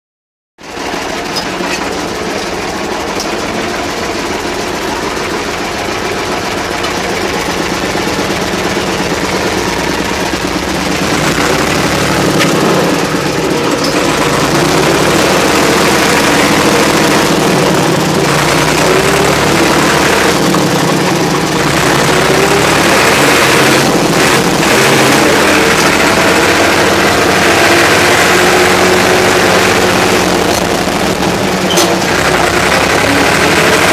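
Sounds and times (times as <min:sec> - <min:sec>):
tractor diesel engine running: 0:00.6 - 0:33.9.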